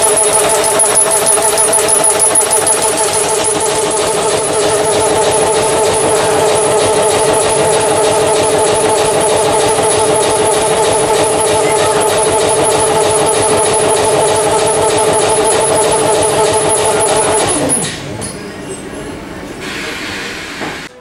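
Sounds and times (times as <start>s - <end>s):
fast rattle: 0.0s - 17.9s
electric train humming: 0.0s - 20.8s.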